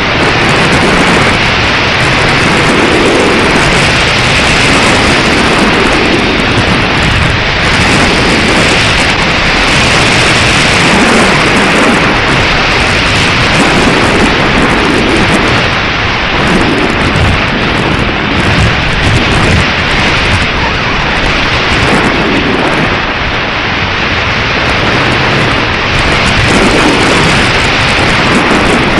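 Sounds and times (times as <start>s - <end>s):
strong wind buffeting microphone: 0.0s - 28.9s.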